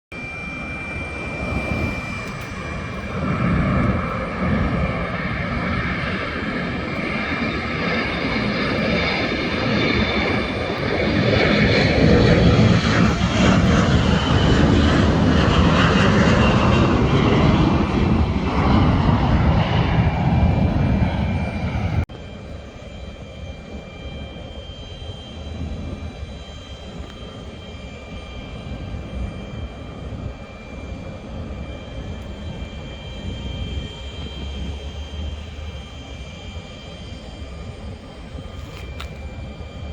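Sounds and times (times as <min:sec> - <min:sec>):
jet airliner engines passing: 0:00.1 - 0:39.9
steady jet whine: 0:00.1 - 0:39.9.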